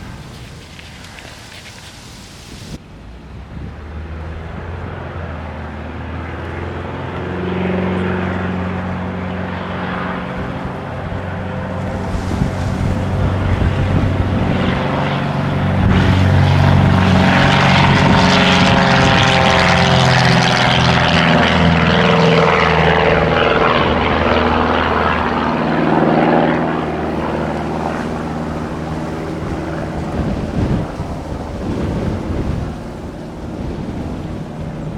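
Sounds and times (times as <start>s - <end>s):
propeller airplane passing: 0.0s - 34.9s.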